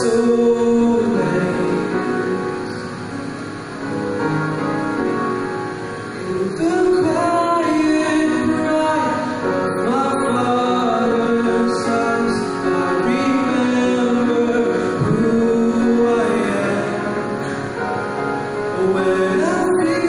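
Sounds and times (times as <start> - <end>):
man singing long notes: 0.0 - 2.9, 6.2 - 20.0
grand piano: 0.0 - 20.0.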